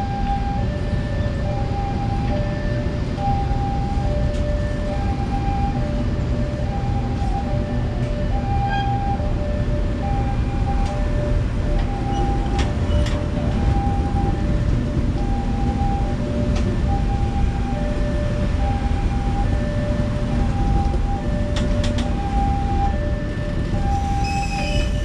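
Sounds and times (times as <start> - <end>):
level crossing alarm: 0.0 - 25.0
train wheels rumbling on rails: 0.0 - 25.0.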